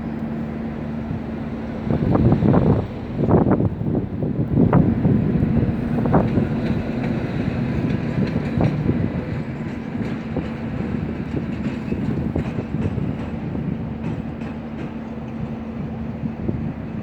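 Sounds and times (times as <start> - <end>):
train rumbling past: 0.0 - 17.0
wheels clacking over rail joints: 0.0 - 17.0.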